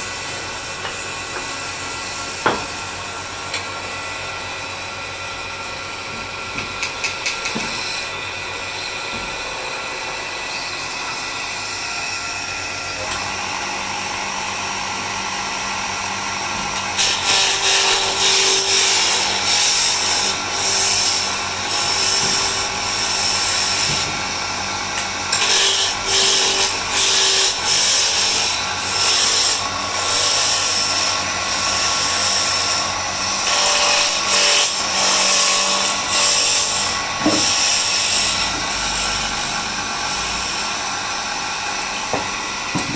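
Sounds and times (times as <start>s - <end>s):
wood lathe humming: 0.0s - 42.9s.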